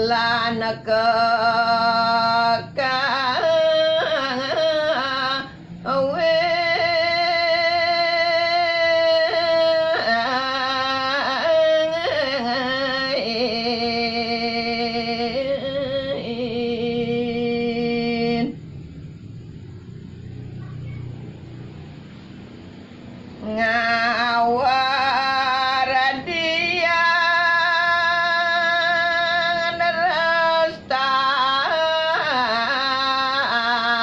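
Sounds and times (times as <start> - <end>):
person singing unaccompanied: 0.0 - 18.8, 23.2 - 34.0.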